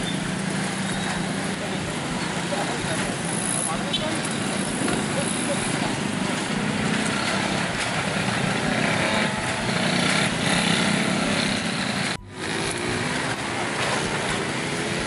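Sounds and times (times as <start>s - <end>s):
engine rising in pitch: 0.0s - 15.0s
motorcycle engines droning: 0.0s - 15.0s.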